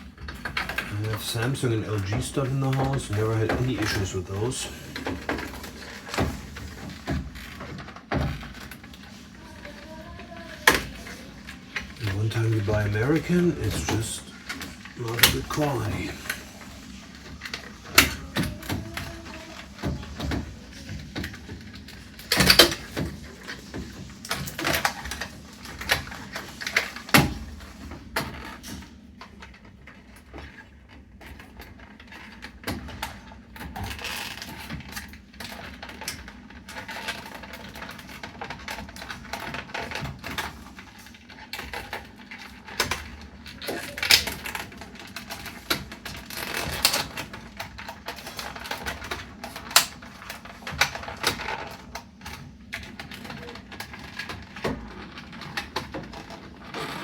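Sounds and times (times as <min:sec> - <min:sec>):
plastic and metal parts clattering: 0:00.0 - 0:57.0.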